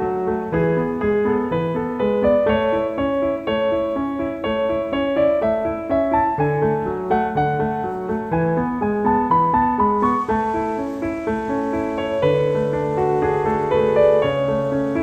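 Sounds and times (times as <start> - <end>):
piano-like keyboard music: 0.0 - 15.0.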